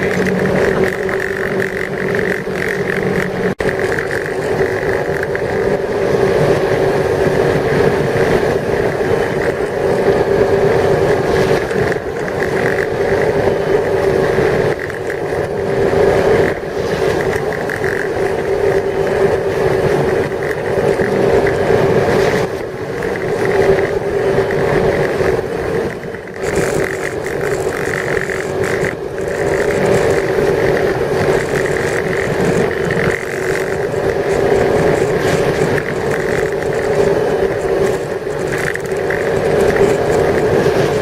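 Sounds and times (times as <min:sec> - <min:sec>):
motorboat engine running: 0:00.0 - 0:41.0
wind noise: 0:00.0 - 0:41.0.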